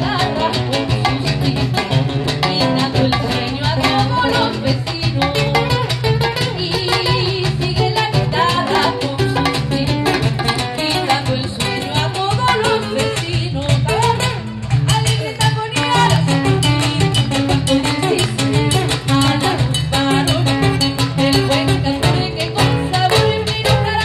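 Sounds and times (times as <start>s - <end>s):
cajon percussion: 0.0s - 24.0s
nylon-string acoustic guitar: 0.0s - 24.0s
woman singing: 0.0s - 24.0s.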